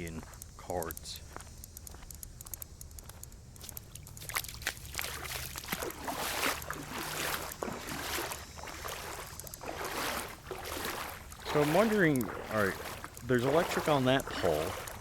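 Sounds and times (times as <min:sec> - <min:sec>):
wading through shallow water: 0:02.9 - 0:15.0.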